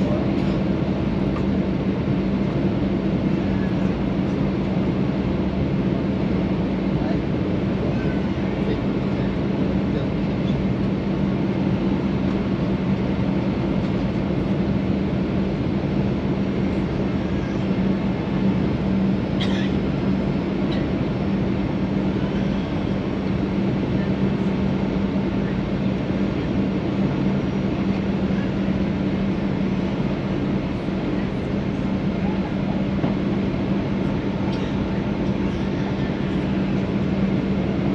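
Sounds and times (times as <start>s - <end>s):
jet engines droning: 0.0s - 37.9s.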